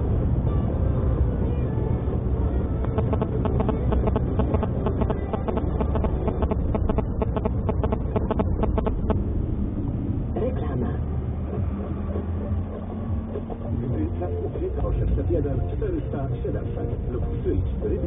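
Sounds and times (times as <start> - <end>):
car cabin road rumble: 0.0 - 18.0
faint music from car radio: 0.0 - 18.0.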